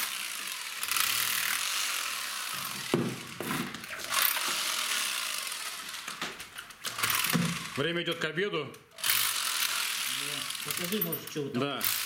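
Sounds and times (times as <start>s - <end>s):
power drill on brick: 0.0s - 7.9s, 9.0s - 12.0s.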